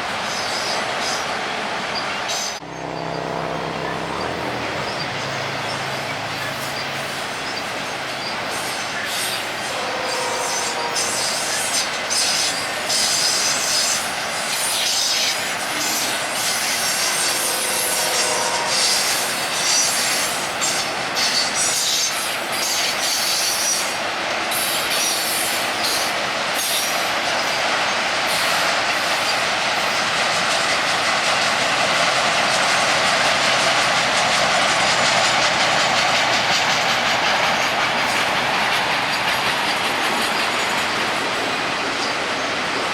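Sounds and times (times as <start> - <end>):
steel wheels rushing on rail: 0.0 - 42.9.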